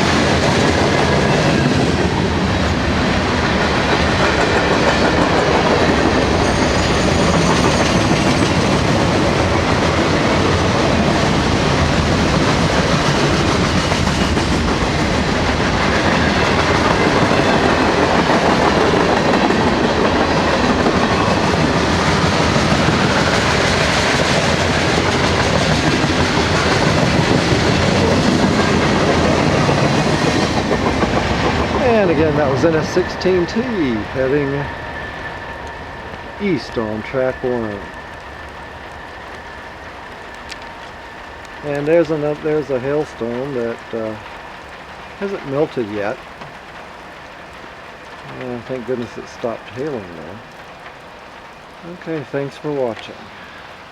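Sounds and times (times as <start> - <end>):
freight train cars rolling past: 0.0 - 53.9.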